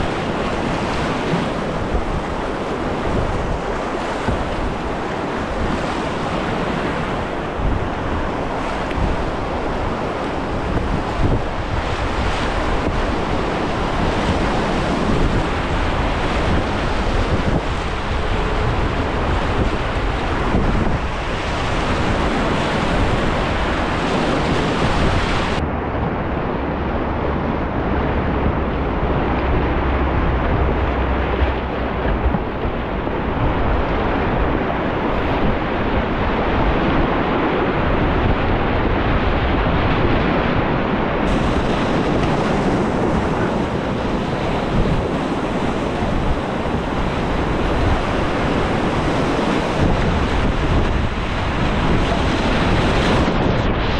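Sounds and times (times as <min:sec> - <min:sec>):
whitewater rapids rushing: 0:00.0 - 0:53.9
wind buffeting microphone: 0:00.0 - 0:53.9.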